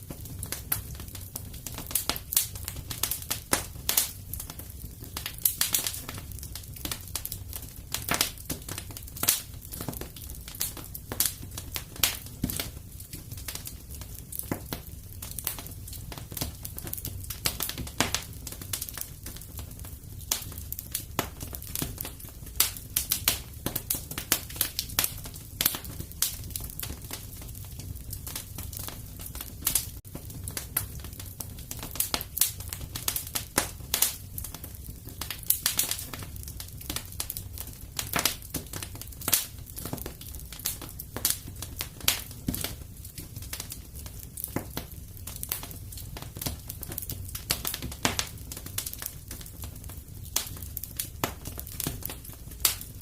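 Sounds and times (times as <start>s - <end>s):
fire pops and snaps: 0.0s - 53.0s
low rumble of flames: 0.0s - 53.0s
wood fire crackling: 0.0s - 53.0s.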